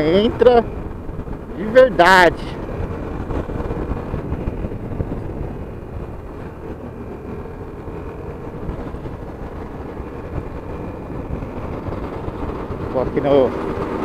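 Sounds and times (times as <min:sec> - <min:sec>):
motorcycle engine running: 0:00.0 - 0:14.0
road noise: 0:00.0 - 0:14.0
wind noise: 0:00.0 - 0:14.0.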